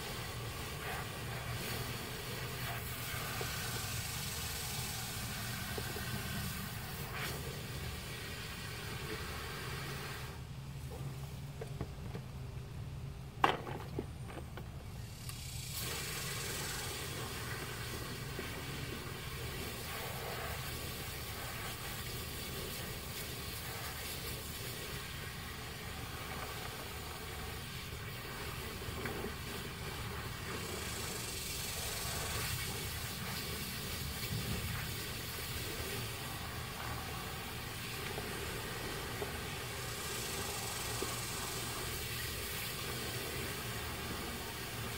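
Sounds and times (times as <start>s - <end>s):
water hissing into plastic tub: 0.0s - 11.5s, 14.9s - 44.9s
steady low hum: 0.0s - 44.9s.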